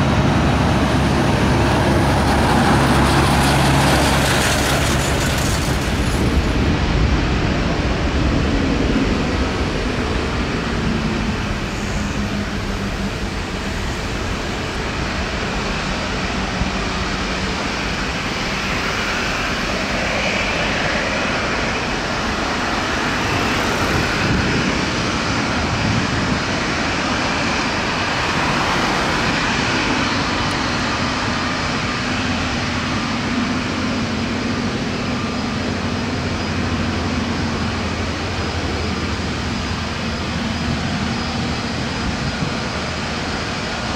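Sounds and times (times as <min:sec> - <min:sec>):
jet engines whooshing: 0:00.0 - 0:43.9.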